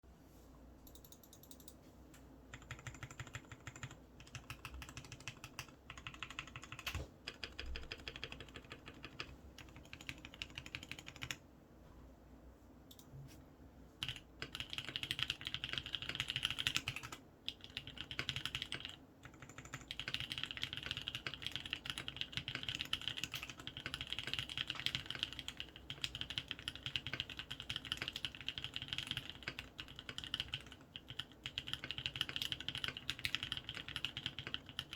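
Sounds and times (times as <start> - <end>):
typing on mechanical keyboard: 2.5 - 11.4, 14.0 - 34.9.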